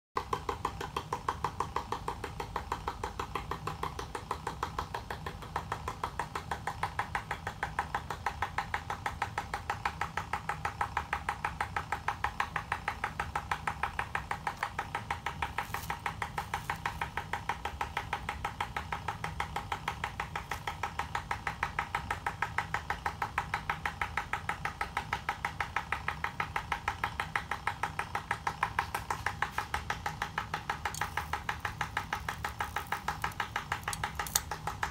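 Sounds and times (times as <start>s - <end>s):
low electrical hum: 0.2s - 34.9s
rapid even electric clicking: 0.2s - 34.9s.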